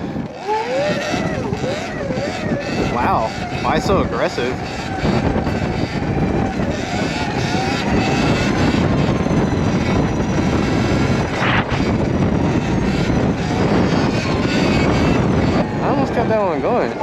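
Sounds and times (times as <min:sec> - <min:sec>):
faint high motor whine: 0:00.0 - 0:17.0
wind and tyre noise: 0:00.0 - 0:17.0.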